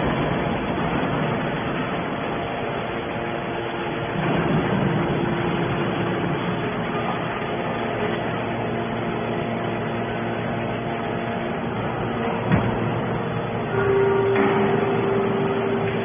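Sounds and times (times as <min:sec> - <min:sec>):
baler machine hum: 0:00.0 - 0:16.0.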